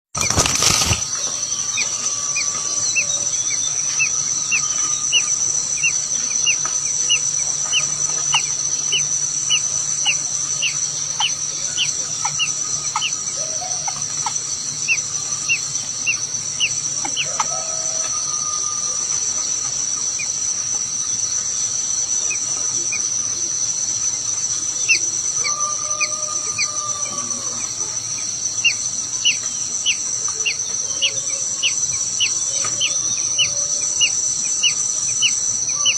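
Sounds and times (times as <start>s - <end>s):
small bird chirping: 0.2s - 18.4s, 19.1s - 35.9s
insect drone: 0.2s - 35.9s.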